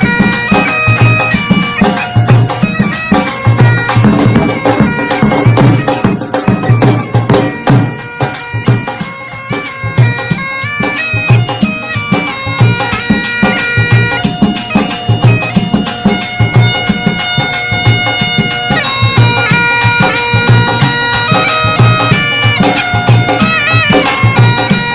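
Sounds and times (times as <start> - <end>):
reedy wind instrument melody: 0.0 - 24.9
steady drum beat: 0.0 - 24.9.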